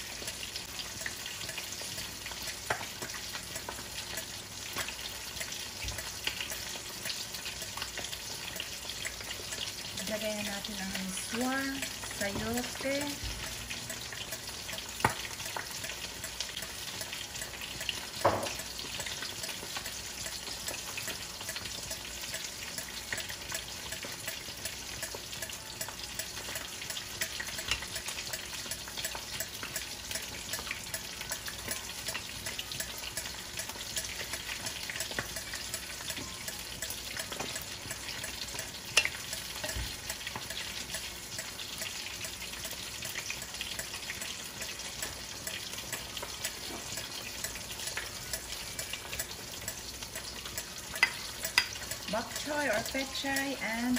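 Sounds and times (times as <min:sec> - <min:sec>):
soup bubbling in a pan: 0:00.0 - 0:53.9
spatula stirring soup: 0:00.0 - 0:53.9.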